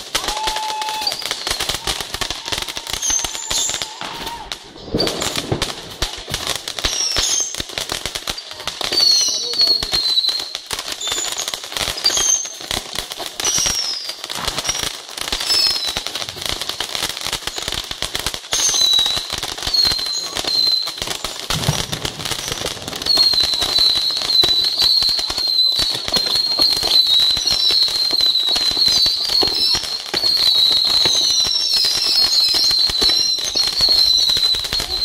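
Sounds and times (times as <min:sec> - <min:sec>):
high whistling of rockets: 0:00.0 - 0:07.7, 0:08.3 - 0:12.6, 0:13.3 - 0:17.0, 0:18.5 - 0:35.0
firework rockets crackling: 0:00.0 - 0:35.0.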